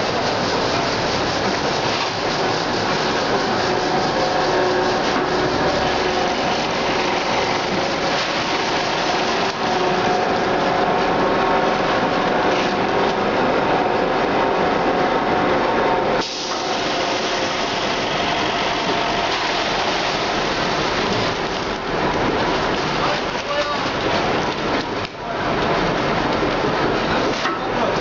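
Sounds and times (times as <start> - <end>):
bagging machinery and conveyor hiss: 0.0 - 28.0.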